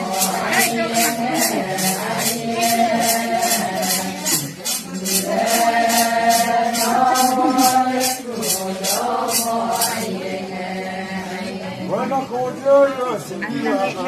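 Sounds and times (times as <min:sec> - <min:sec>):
jingling shaker beat: 0:00.0 - 0:11.5
group chanting in chorus: 0:00.0 - 0:12.2.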